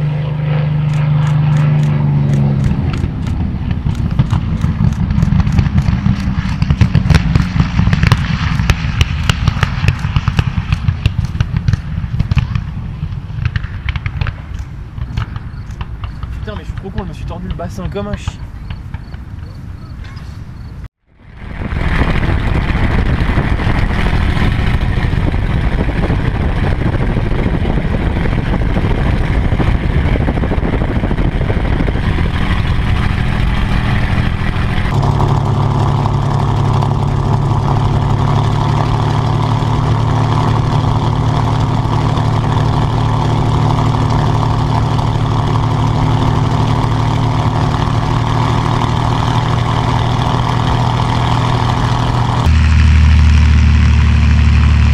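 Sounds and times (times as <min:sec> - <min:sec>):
propeller plane engine running: 0:00.0 - 0:54.9.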